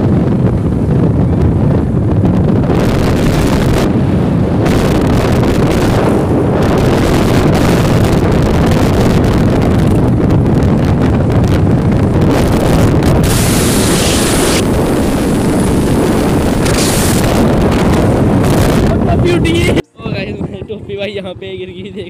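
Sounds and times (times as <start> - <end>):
motorcycle engine: 0.0 - 19.0
road noise: 0.0 - 22.0
wind buffeting microphone: 0.0 - 22.0.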